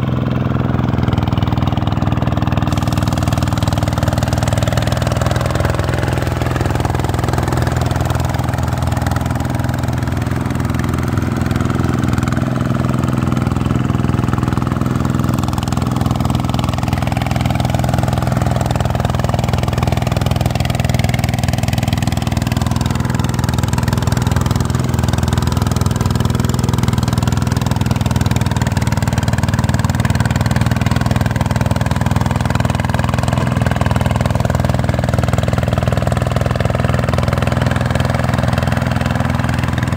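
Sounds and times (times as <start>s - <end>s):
diesel engine running under load: 0.0s - 39.9s
wheels churning through water: 0.9s - 39.9s.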